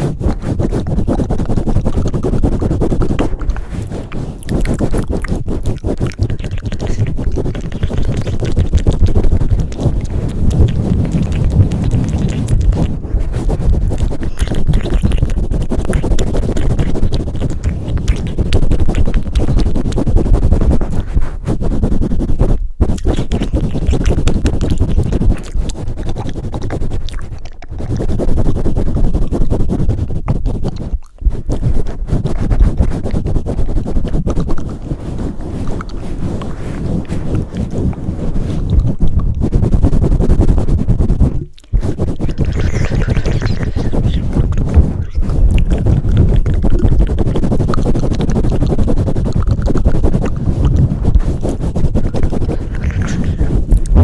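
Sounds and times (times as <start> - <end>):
hands rubbing on microphone: 0.0 - 54.0.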